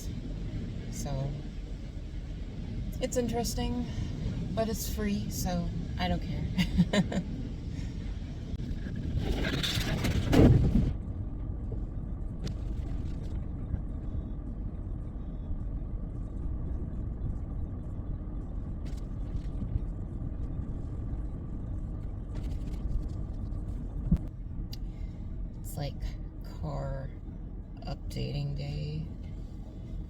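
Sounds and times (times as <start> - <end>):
car idling: 0.0 - 30.0.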